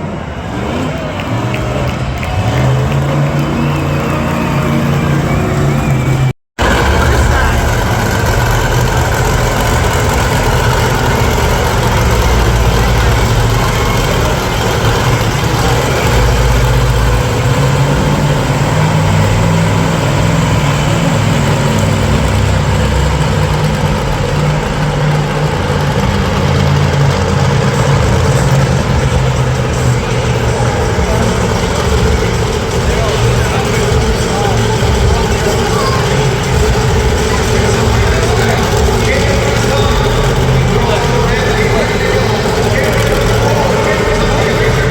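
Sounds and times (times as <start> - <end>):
monster truck engine running: 0.0 - 44.9.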